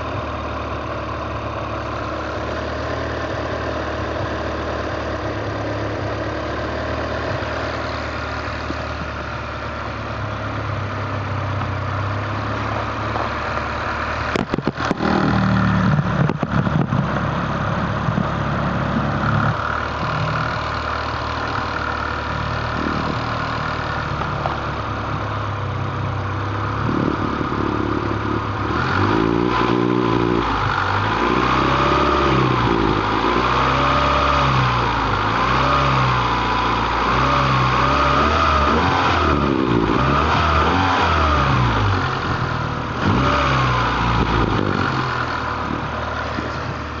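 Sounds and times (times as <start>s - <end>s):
car engine idling and revving: 0.0s - 47.0s
engine whine: 0.0s - 47.0s.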